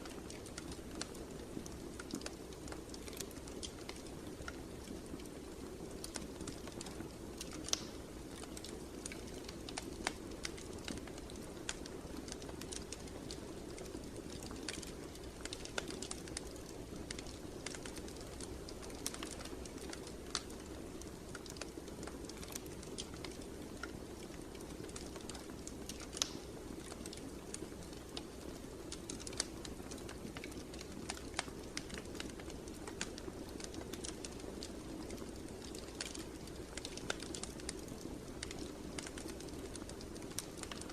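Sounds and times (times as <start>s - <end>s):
fire crackling with sharp pops: 0.0s - 40.9s
low rustle of burning logs: 0.0s - 40.9s.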